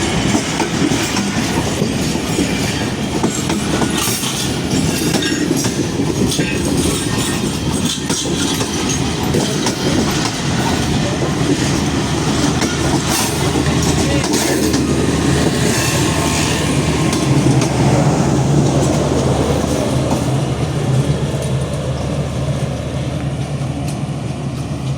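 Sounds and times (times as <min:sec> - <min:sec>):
train engine drone: 0:00.0 - 0:24.9
train wheels clicking on track: 0:00.0 - 0:24.9.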